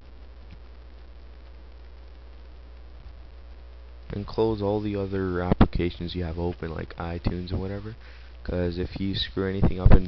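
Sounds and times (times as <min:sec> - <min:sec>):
faint hiss: 0:00.0 - 0:10.0
low electrical hum: 0:00.0 - 0:10.0.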